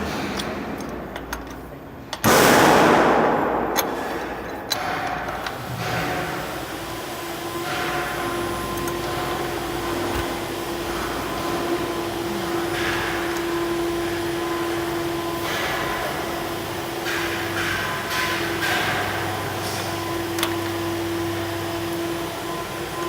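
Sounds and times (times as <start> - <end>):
wood crusher motor hum: 3.9 - 23.0.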